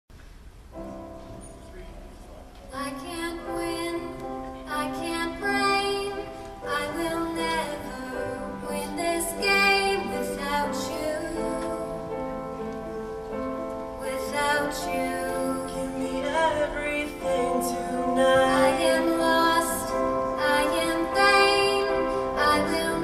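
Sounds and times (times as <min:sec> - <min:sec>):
choir singing harmonised chords: 0:03.4 - 0:23.0.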